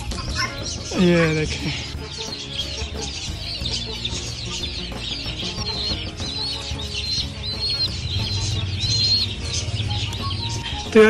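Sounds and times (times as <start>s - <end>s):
young birds peeping: 0.0s - 11.0s.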